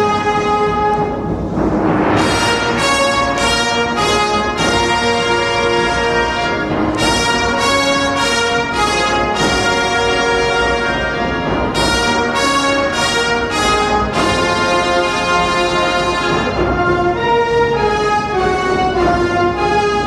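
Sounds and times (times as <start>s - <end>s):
orchestral music led by brass: 0.0s - 20.0s.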